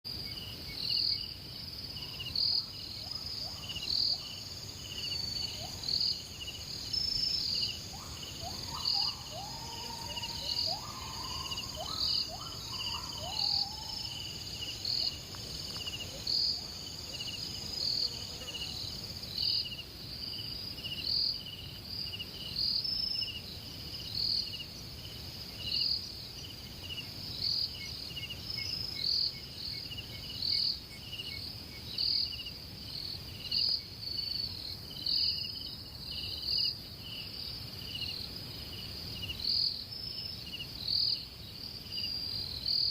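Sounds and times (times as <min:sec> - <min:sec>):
insects trilling: 0:00.1 - 0:42.9
loud insect chirp: 0:00.1 - 0:42.9.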